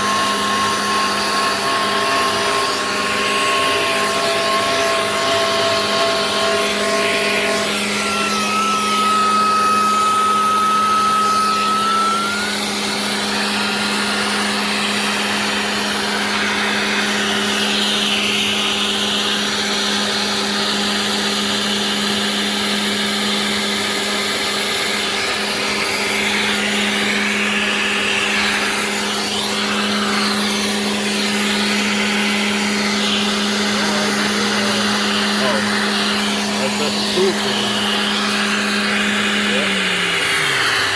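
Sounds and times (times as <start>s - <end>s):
high whine: 0.0s - 19.4s, 23.3s - 40.9s
router bit cutting whoosh: 0.0s - 40.9s
router spindle humming: 0.0s - 40.9s.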